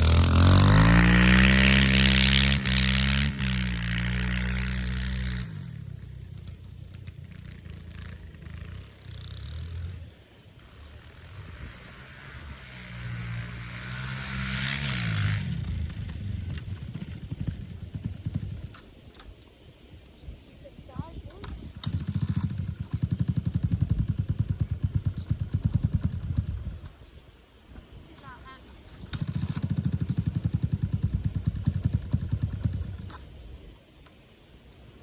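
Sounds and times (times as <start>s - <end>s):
dirt bike engine running: 0.0s - 19.5s, 20.9s - 27.1s, 28.1s - 33.6s.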